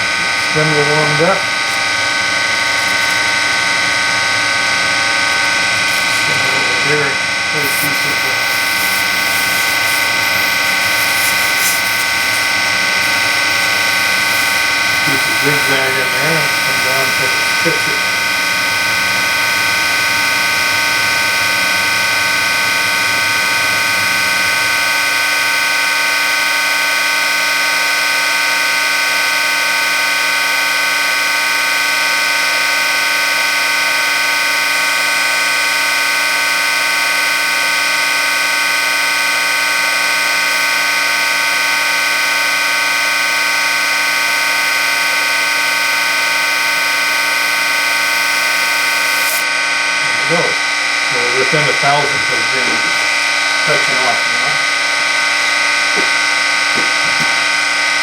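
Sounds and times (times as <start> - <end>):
grinder wheel whine: 0.0 - 58.0.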